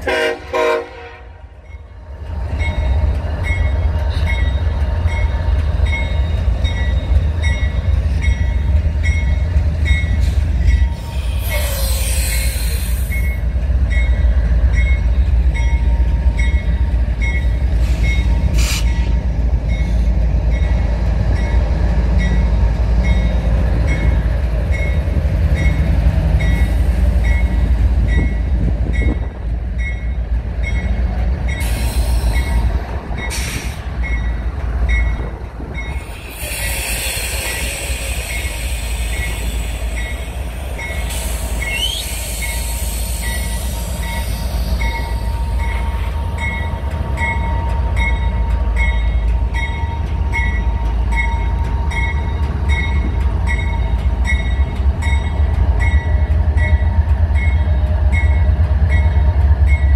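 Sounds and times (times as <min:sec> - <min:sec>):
locomotive engine rumble: 0:00.0 - 0:59.9
train wheels on rail: 0:00.0 - 0:59.9.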